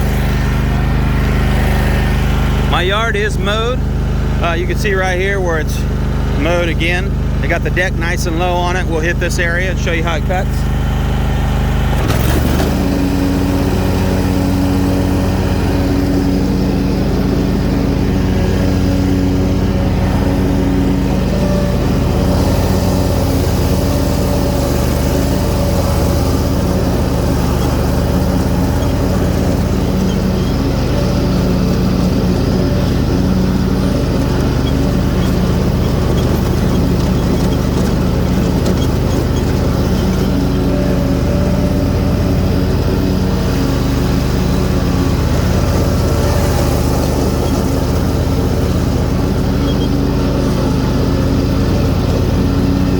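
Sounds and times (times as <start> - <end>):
lawn mower engine mowing grass: 0.0 - 52.9.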